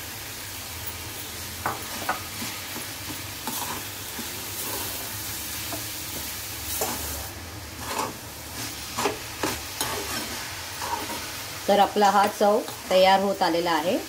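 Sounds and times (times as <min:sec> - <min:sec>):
mixture sizzling in a pan: 0:00.0 - 0:14.0
spatula scraping a pan: 0:01.6 - 0:13.1.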